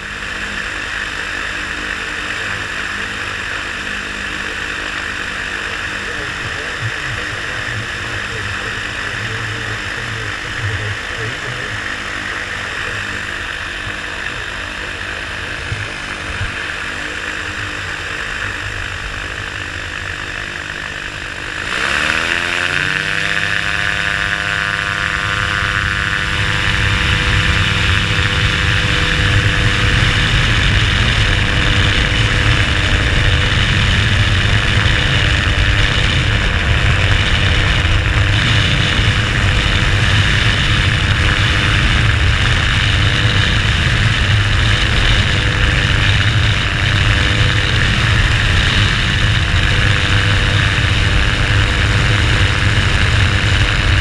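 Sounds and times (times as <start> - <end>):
light aircraft engine and propeller: 0.0 - 54.0
rushing wind: 0.0 - 54.0.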